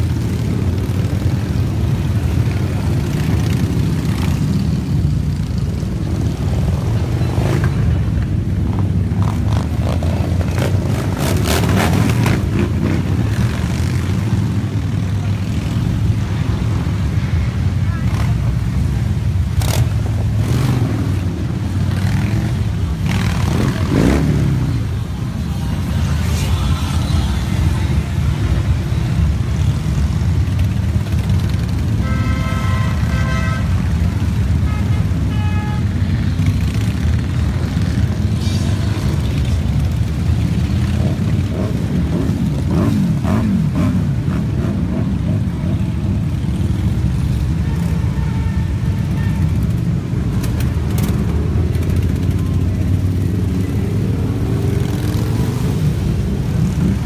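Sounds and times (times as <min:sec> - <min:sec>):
motorcycle engines rumbling: 0:00.0 - 0:57.0
motorcycles revving: 0:00.0 - 0:57.0.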